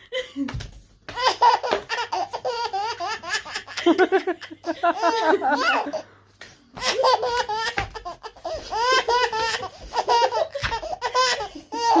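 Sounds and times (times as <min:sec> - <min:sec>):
small child laughing: 0:00.0 - 0:06.0, 0:06.8 - 0:12.0.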